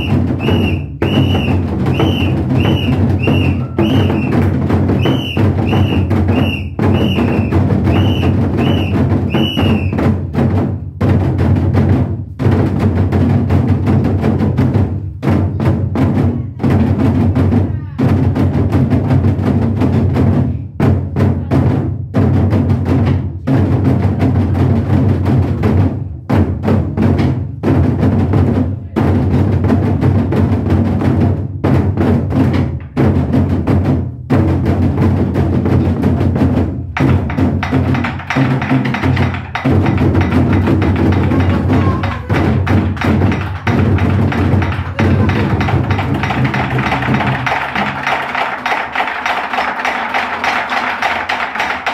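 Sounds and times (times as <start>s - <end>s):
fast barrel drumming: 0.0s - 51.9s.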